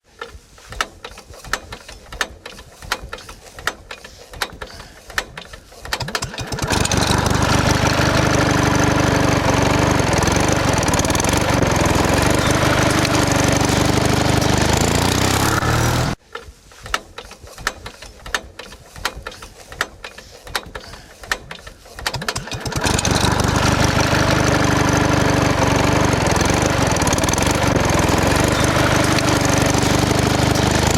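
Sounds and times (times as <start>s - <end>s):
baler machine running: 1.0s - 16.2s, 17.6s - 30.9s.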